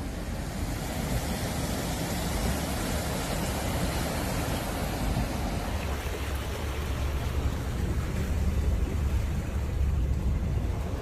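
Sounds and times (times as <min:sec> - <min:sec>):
low engine and road rumble: 0:00.0 - 0:11.0
rain and water rushing: 0:00.0 - 0:11.0.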